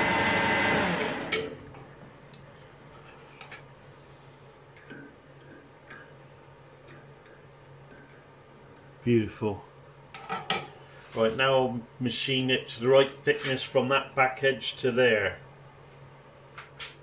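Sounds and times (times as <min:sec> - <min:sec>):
low steady hum: 0:01.0 - 0:17.0.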